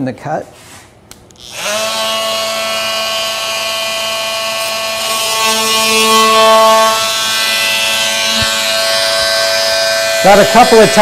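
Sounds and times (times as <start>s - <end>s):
power cutting tool whining: 1.4s - 11.0s.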